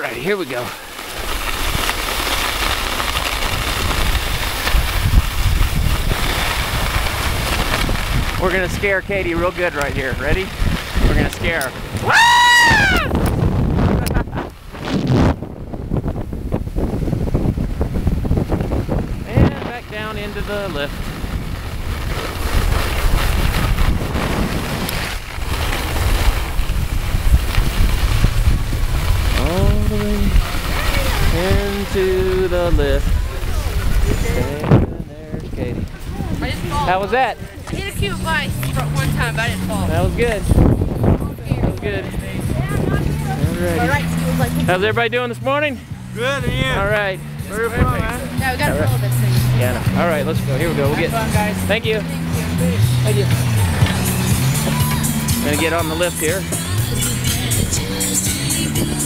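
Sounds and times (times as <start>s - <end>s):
skis hissing over snow: 0.0s - 13.1s, 16.8s - 34.7s, 35.9s - 45.0s, 46.0s - 59.0s
wind buffeting microphone: 0.0s - 59.0s.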